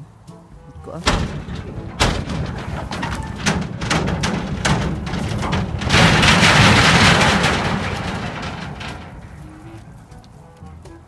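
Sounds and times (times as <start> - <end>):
vehicles knocking and clattering: 0.0 - 11.0
rumbling rush of vehicles: 0.8 - 11.0.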